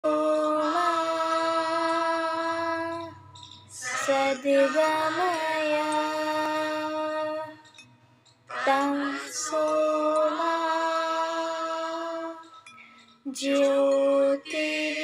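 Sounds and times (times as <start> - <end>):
girl singing long notes: 0.0 - 7.8, 8.5 - 15.0.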